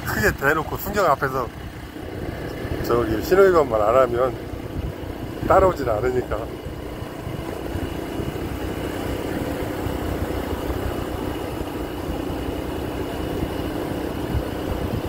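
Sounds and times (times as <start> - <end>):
motorbike engine cruising: 0.0 - 15.0
wind and road noise: 0.0 - 15.0.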